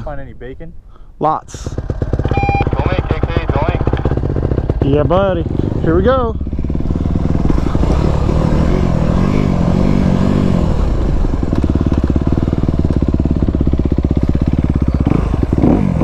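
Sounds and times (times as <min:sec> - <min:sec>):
dirt bike engine revving: 0:01.6 - 0:16.0.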